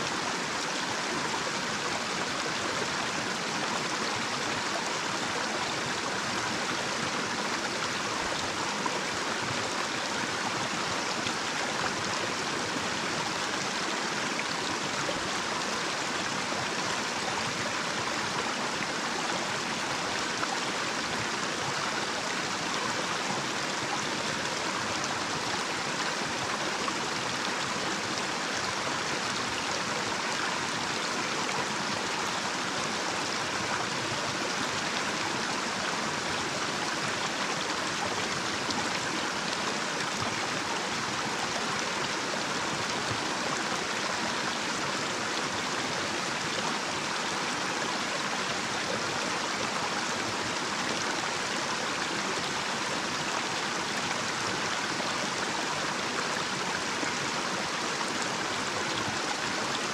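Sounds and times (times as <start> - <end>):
stream flowing over a cascade: 0.0 - 59.9.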